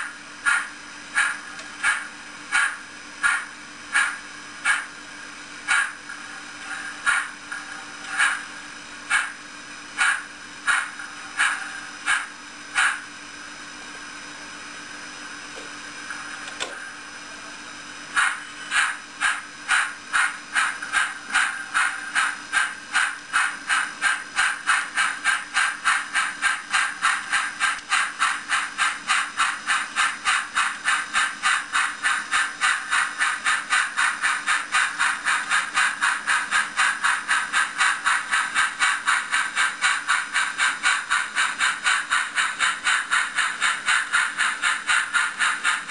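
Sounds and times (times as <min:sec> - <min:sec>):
steam locomotive exhaust chuffs: 0:00.0 - 0:45.9.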